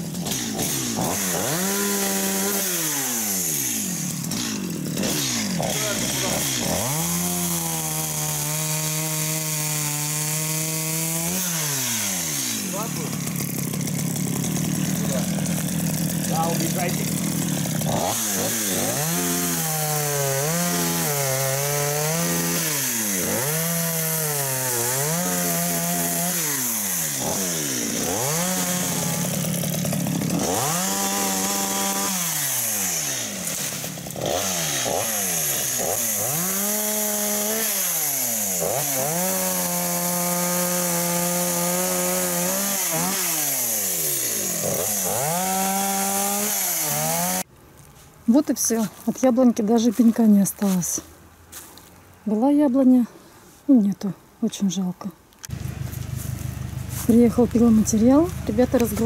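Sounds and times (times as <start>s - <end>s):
chainsaw cutting wood: 0.0s - 47.5s, 55.4s - 59.0s.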